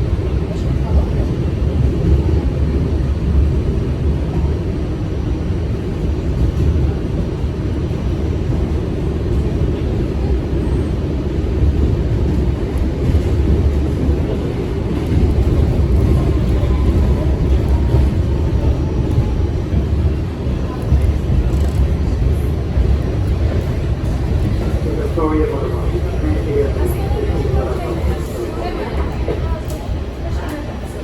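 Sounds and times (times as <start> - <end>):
subway wheels rumbling on rails: 0.0 - 31.0.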